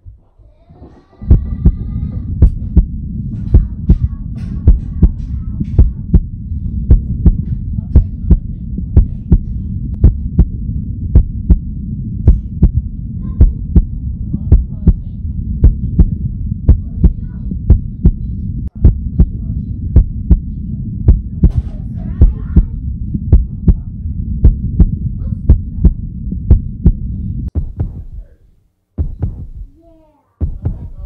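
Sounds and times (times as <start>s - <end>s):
deep low rumble: 0.0s - 31.0s
pounding heartbeat: 1.2s - 28.4s, 29.0s - 29.8s, 30.4s - 31.0s.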